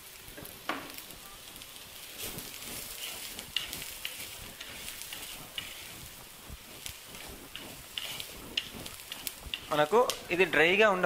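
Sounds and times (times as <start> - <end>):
food sizzling in hot oil: 0.0 - 11.0
wooden spatula scraping a pot: 1.5 - 11.0.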